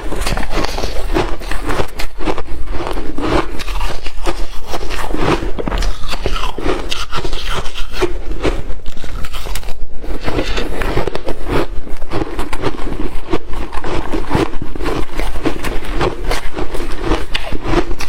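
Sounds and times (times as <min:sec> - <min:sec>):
chewing ice crunches: 0:00.0 - 0:18.0.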